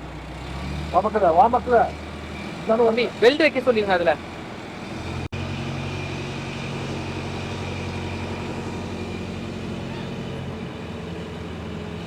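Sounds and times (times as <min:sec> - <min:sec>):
crane engine hum: 0:00.0 - 0:12.0.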